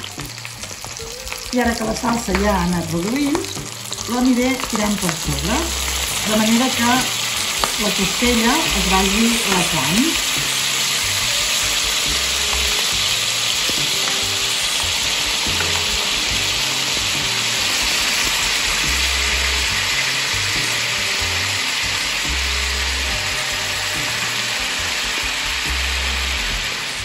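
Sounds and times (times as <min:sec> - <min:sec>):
meat sizzling in a pan: 0:00.0 - 0:27.0
sauce bubbling: 0:00.0 - 0:27.0.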